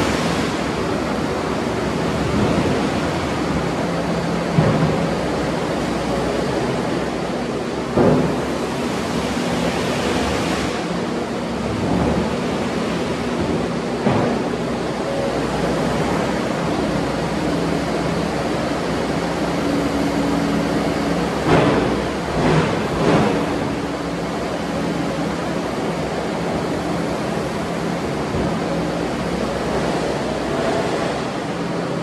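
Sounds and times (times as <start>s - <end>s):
diesel engine running: 0.0s - 32.0s
steady rushing noise: 0.0s - 32.0s.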